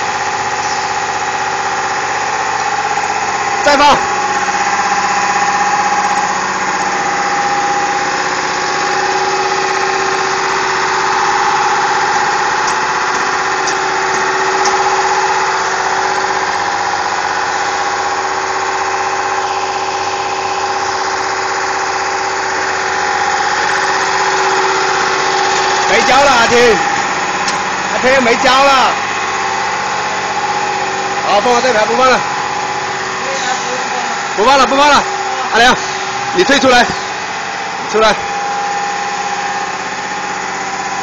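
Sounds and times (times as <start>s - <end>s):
machine drone with whine: 0.0s - 41.0s.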